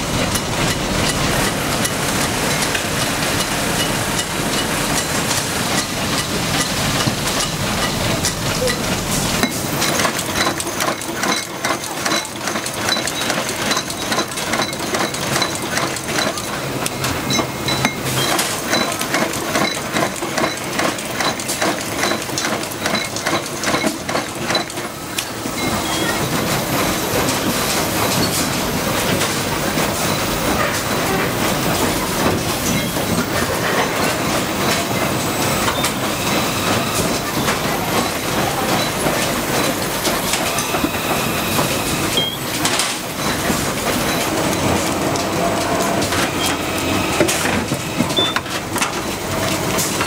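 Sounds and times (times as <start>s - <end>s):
machinery clattering and ticking: 0.0s - 50.0s.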